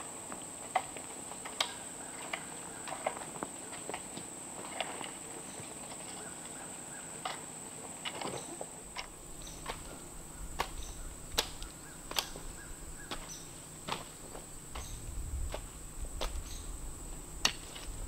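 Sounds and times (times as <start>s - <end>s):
insects droning: 0.0s - 18.0s
hand tool knocking and scraping dirt: 0.7s - 5.2s, 7.2s - 16.6s, 17.4s - 18.0s.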